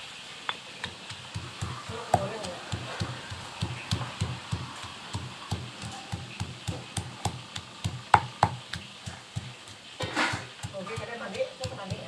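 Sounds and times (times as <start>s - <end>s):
pestle pounding in stone mortar: 0.8s - 12.0s.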